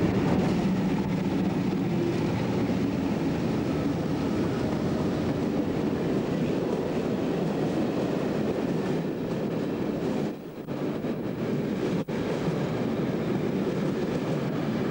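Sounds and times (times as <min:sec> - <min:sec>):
diesel locomotive engines: 0:00.0 - 0:14.9.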